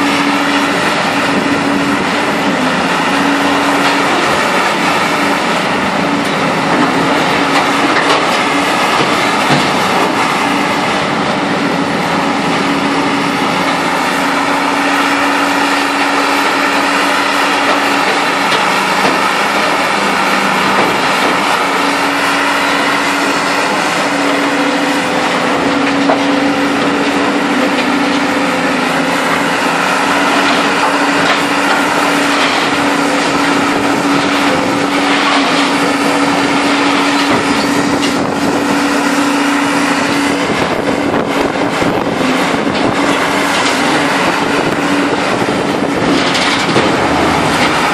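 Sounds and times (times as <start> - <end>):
heavy hydraulic machinery droning: 0.0 - 47.9.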